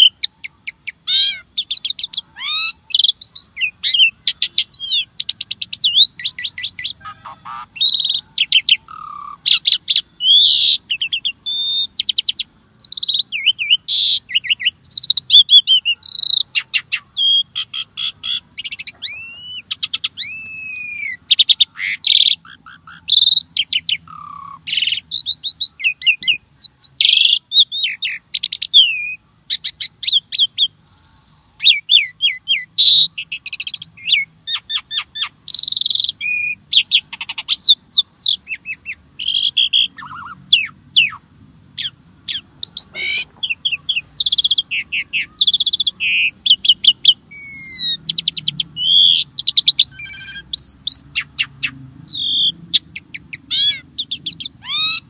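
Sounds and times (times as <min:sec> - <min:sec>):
starling singing: 0:00.0 - 0:55.0.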